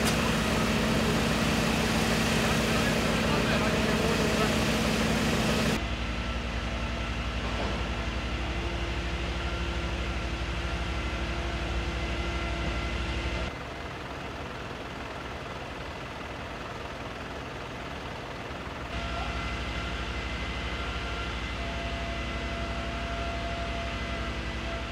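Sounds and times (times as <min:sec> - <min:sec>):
vehicle engines idling: 0:00.0 - 0:24.9.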